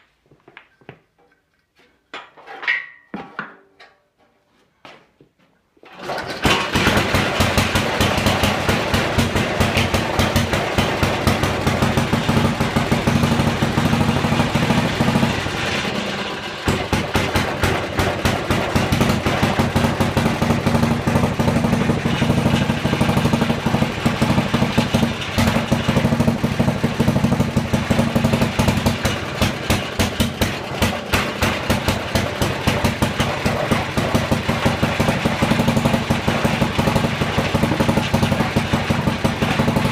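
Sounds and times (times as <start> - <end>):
single-cylinder engine running: 5.9 - 39.9.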